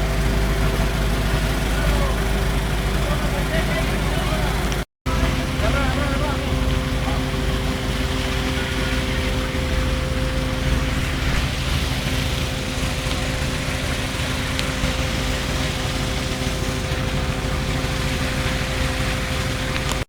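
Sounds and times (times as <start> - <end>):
boat diesel engine droning: 0.0 - 20.0.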